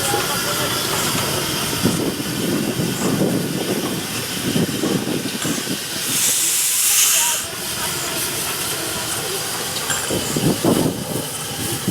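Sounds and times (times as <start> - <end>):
steam gushing: 0.0 - 11.9
steam locomotive hissing: 0.0 - 11.9.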